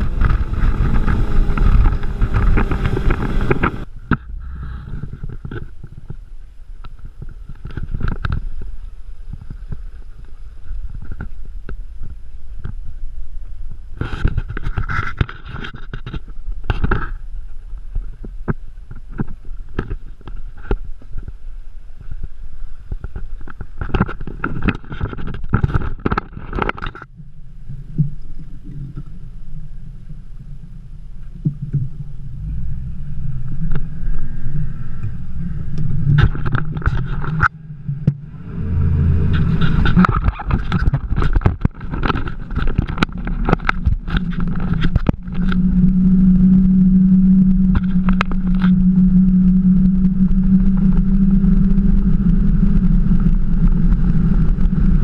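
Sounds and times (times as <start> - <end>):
outboard engine droning: 0.0 - 55.0
wind and water noise: 0.0 - 55.0.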